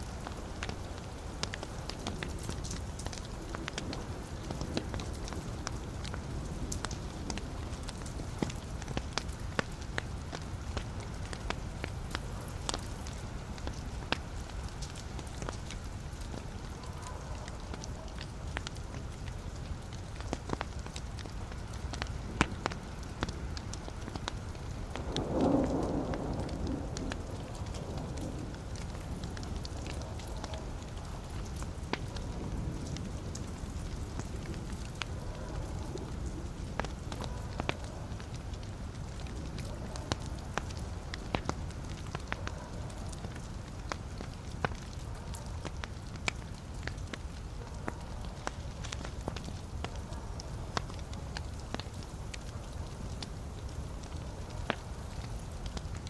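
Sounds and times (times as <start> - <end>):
logs crackling and popping: 0.0 - 56.0
low rumble of flames: 0.0 - 56.0.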